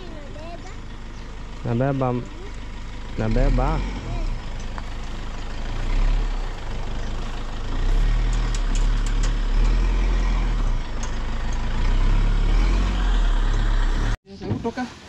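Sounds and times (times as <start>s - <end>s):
pickup engine rumbling: 0.0s - 15.0s.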